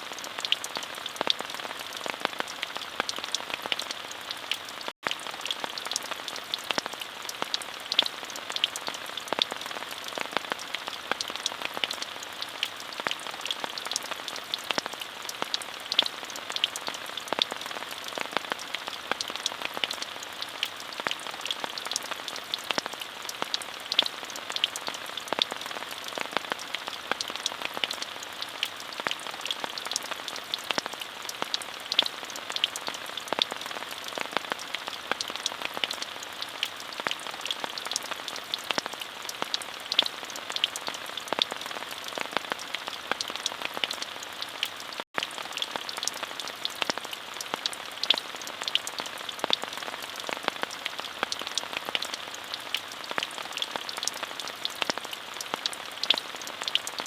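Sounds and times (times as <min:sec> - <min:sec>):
rain falling on surfaces: 0:00.0 - 0:57.0.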